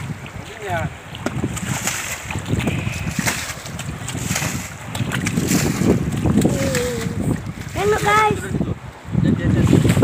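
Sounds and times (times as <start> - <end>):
water splashing against car: 0.0 - 8.6
wind buffeting microphone: 0.0 - 10.0.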